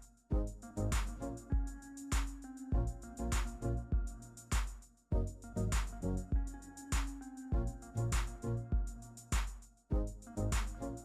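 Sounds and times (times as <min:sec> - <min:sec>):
electronic music with drum machine: 0:00.0 - 0:11.0.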